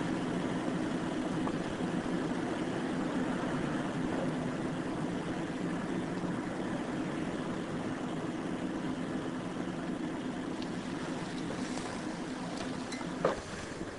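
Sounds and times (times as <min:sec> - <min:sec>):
machine hum: 0:00.0 - 0:13.9.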